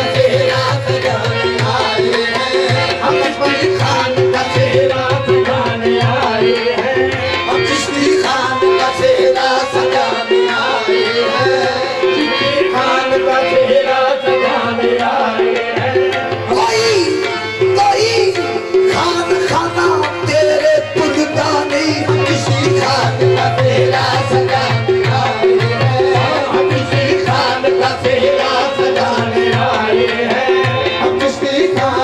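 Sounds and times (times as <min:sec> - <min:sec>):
devotional music: 0:00.0 - 0:32.0
tabla beat: 0:00.0 - 0:32.0.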